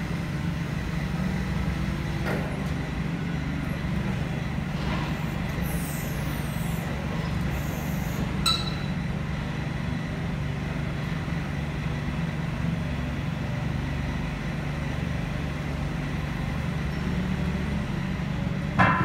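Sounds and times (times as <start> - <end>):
forklift engine idling: 0.0 - 18.9.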